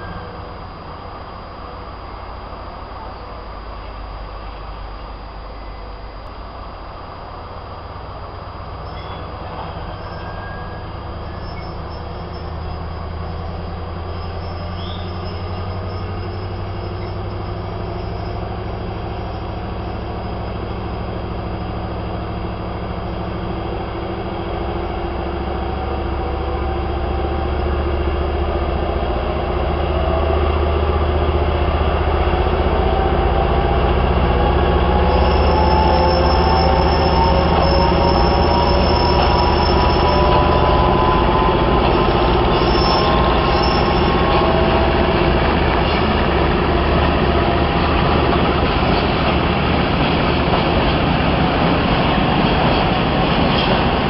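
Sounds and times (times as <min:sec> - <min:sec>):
diesel locomotive engine under load: 0:00.0 - 0:54.0.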